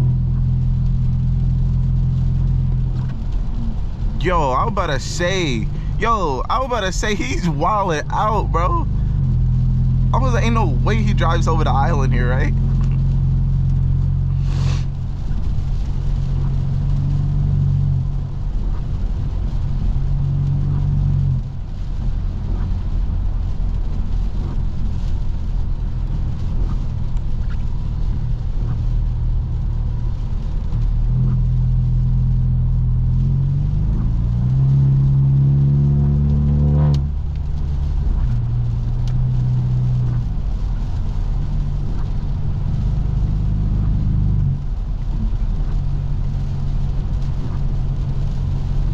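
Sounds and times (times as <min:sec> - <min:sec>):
car engine exhaust drone: 0:00.0 - 0:48.9
exhaust crack: 0:00.0 - 0:48.9.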